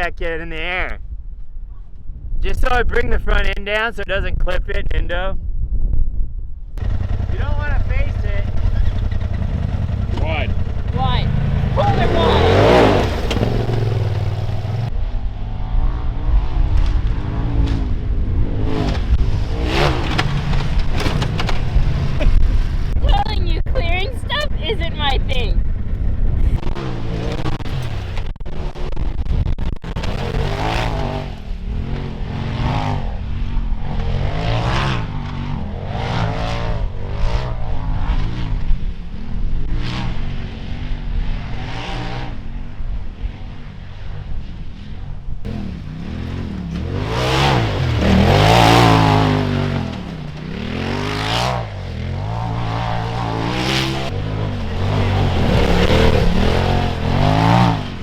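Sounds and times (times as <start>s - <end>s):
off-road vehicle engine revving: 6.8s - 42.6s, 45.4s - 58.0s.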